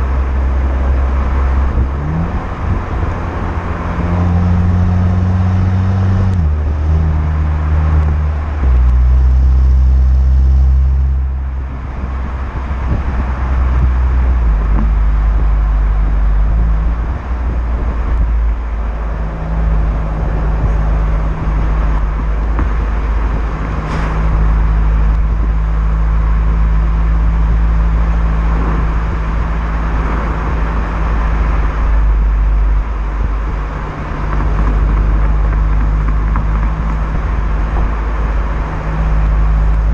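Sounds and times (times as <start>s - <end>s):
turbo car engine revving: 0.0s - 39.9s.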